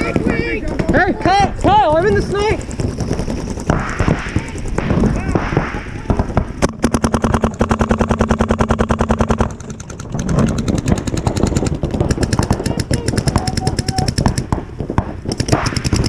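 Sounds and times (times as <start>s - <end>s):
steady low hum: 0.0s - 16.0s
paintball marker firing: 2.5s - 16.0s.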